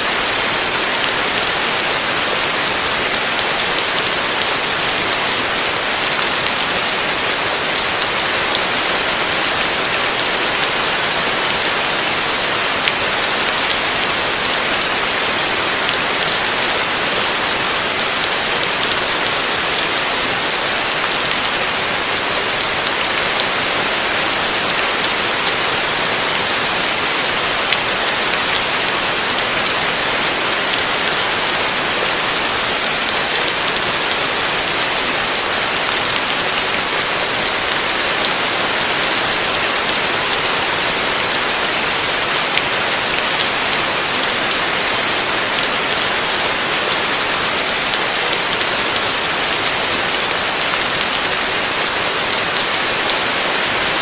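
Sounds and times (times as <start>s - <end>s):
heavy rain on a roof: 0.0s - 54.0s.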